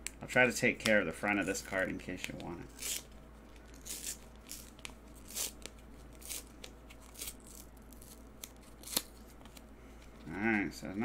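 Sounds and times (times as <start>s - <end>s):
card tearing along perforations: 0.7s - 9.7s.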